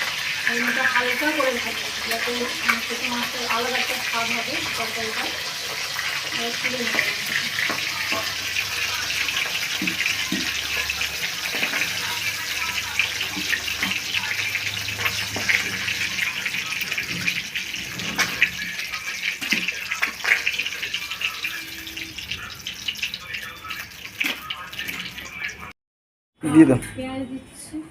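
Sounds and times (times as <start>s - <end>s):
fish sizzling in oil: 0.0s - 25.7s
oil popping: 0.0s - 25.7s.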